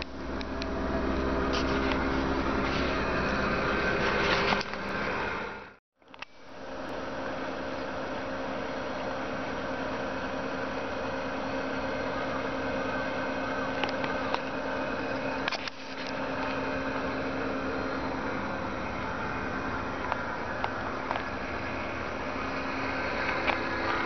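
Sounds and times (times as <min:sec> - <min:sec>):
van engine idling: 0:00.0 - 0:05.8, 0:06.4 - 0:24.0.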